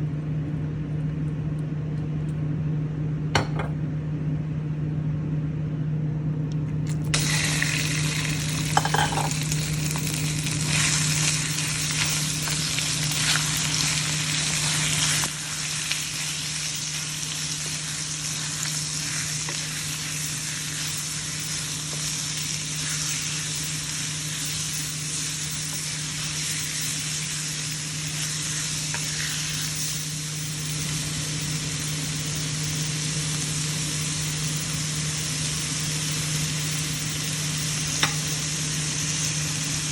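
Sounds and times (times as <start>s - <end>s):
food sizzling in a hot pan: 7.1s - 39.9s.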